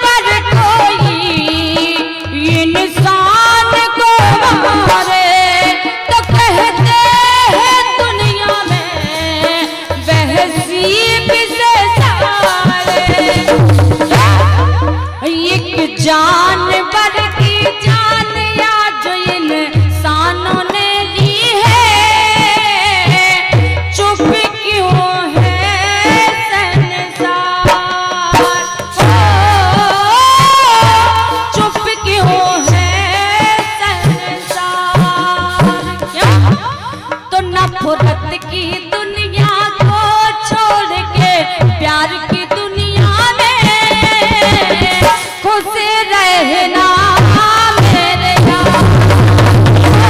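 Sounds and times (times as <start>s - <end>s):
woman singing: 0.0s - 50.0s.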